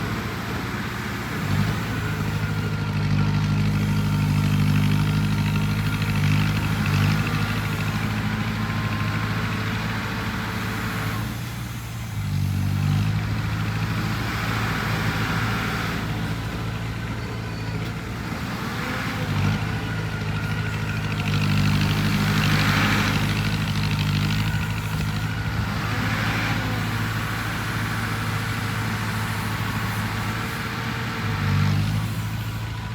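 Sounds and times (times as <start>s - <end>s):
heavy machine engine running: 0.0s - 32.9s.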